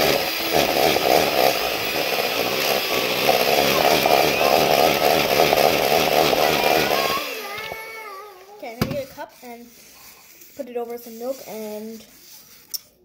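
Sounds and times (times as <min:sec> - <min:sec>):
electric hand mixer whipping: 0:00.0 - 0:12.3.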